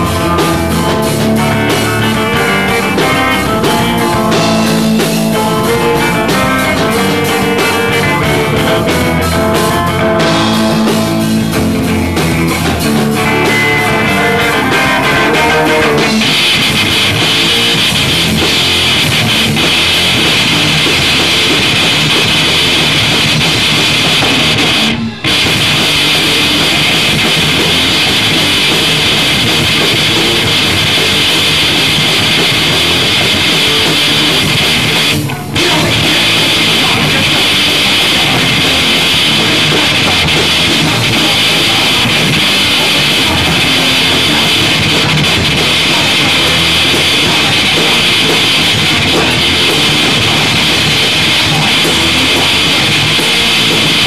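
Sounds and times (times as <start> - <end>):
drum kit: 0.0 - 54.0
electric guitars: 0.0 - 54.0
rock band playing loud: 0.0 - 54.0.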